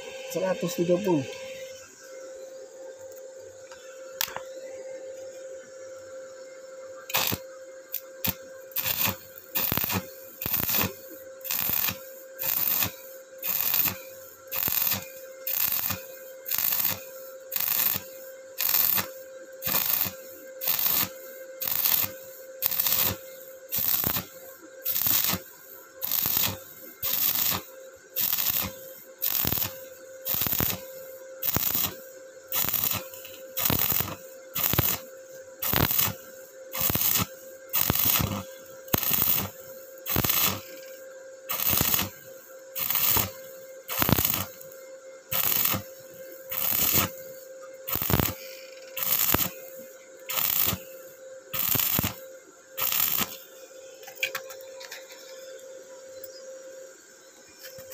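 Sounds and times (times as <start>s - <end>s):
welder steady tone: 0.0s - 57.9s
welding arc crackling: 7.1s - 53.4s.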